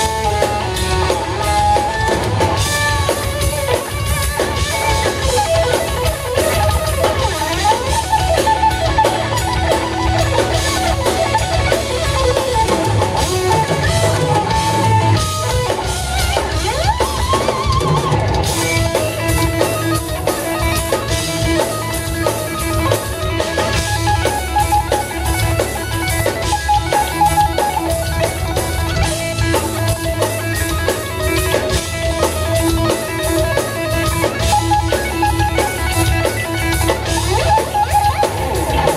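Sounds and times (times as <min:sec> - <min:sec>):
bass guitar: 0:00.0 - 0:38.9
drum beat: 0:00.0 - 0:38.9
electric guitar lead line: 0:00.0 - 0:38.9.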